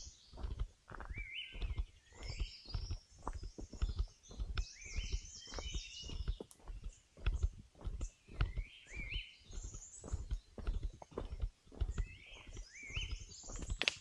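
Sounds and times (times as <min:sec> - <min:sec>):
birds singing: 0:00.0 - 0:14.0
footsteps crunching on trail: 0:00.0 - 0:14.0.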